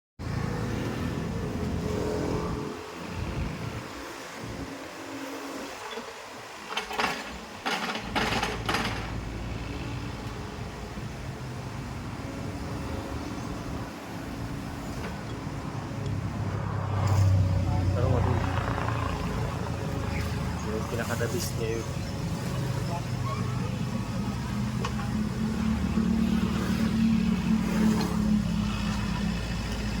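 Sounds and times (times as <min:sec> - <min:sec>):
excavator diesel engine rumbling: 0:05.8 - 0:30.0.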